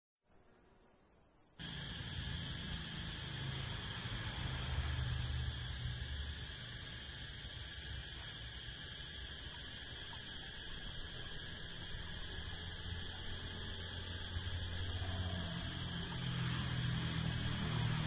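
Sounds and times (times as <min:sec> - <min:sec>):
high-pitched insect chorus: 0:00.3 - 0:18.0
low rumble: 0:01.6 - 0:18.0.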